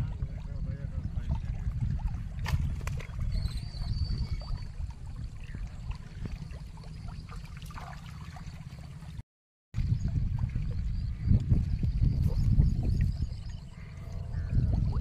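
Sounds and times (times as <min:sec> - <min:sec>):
water sloshing with fish splashing: 0:00.0 - 0:09.2, 0:09.8 - 0:15.0
wind rumble on microphone: 0:00.0 - 0:09.2, 0:09.8 - 0:15.0.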